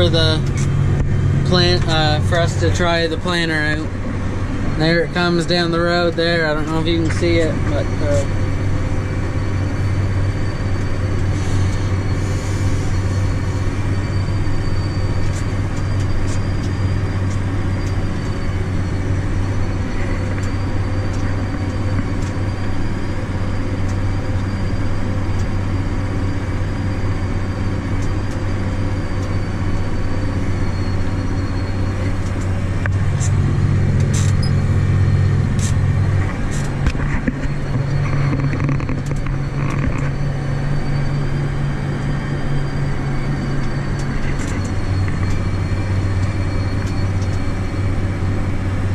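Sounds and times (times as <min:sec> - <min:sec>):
tractor engine drone: 0:00.0 - 0:48.9.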